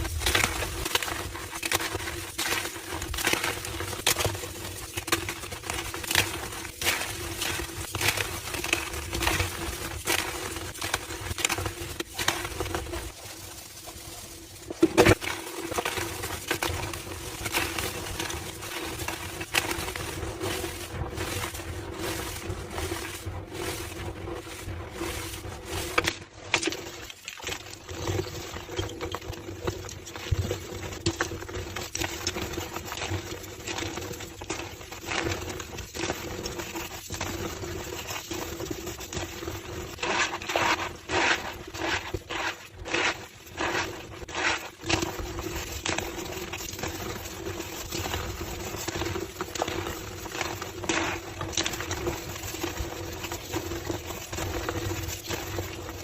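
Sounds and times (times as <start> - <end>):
chalk being crushed: 0.0 - 29.5, 31.0 - 56.0.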